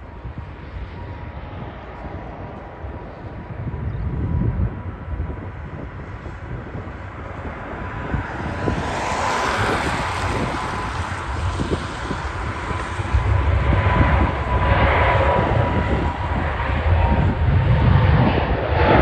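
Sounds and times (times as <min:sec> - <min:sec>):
jet airliner engines roaring: 0:00.0 - 0:19.0.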